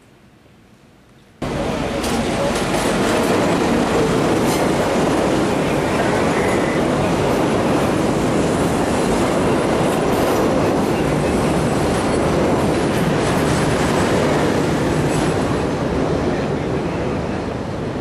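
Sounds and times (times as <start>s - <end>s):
passenger train rumbling past: 1.4s - 18.0s.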